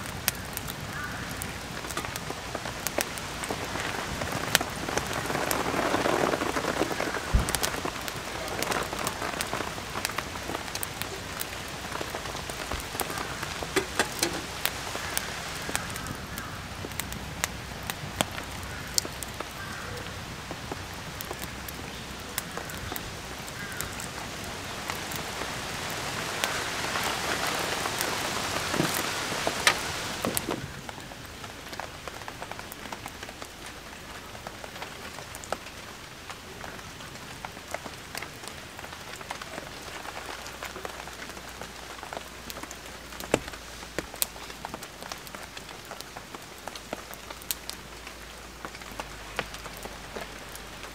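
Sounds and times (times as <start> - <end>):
raindrops hitting close by: 0.0 - 50.9
steady rain falling: 0.0 - 50.9.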